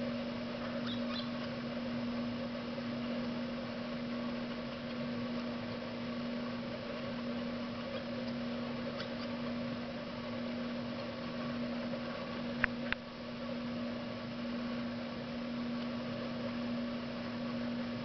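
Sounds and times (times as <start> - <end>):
constant hiss: 0.0 - 18.0
steady low hum: 0.0 - 18.0.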